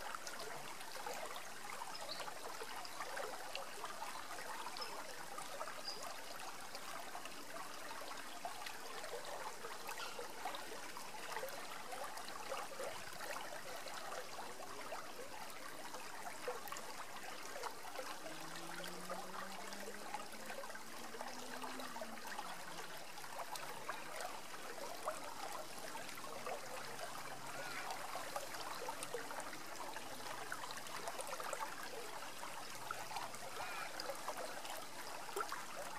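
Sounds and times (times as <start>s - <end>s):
river rippling over rocks: 6.2s - 35.9s.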